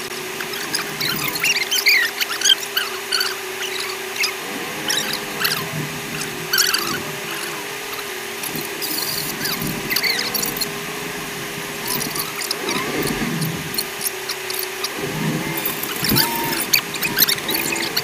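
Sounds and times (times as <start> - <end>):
sped-up steady hum: 0.0 - 18.0
high squeaks and chirps: 0.4 - 10.8, 11.8 - 18.0.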